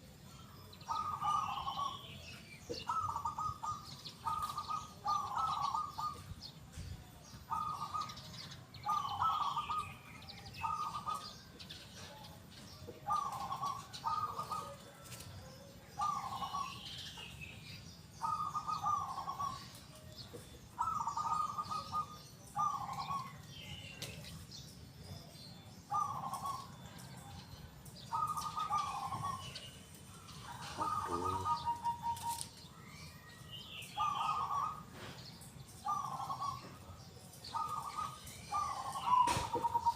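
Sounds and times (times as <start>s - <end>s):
small birds chirping: 0.0s - 39.9s
dove cooing: 0.8s - 6.4s, 7.4s - 17.1s, 18.2s - 20.0s, 20.7s - 24.3s, 25.8s - 27.4s, 28.0s - 32.7s, 33.8s - 35.2s, 35.8s - 39.9s.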